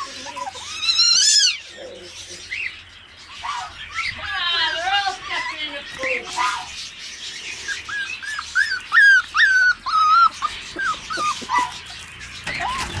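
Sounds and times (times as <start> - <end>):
puppies whimpering: 0.0 - 13.0.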